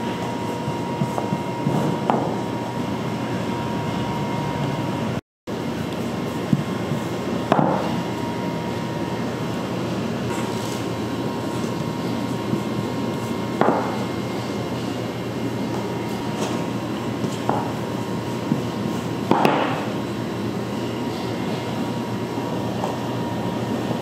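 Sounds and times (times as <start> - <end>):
machine hum with high whine: 0.0 - 24.0.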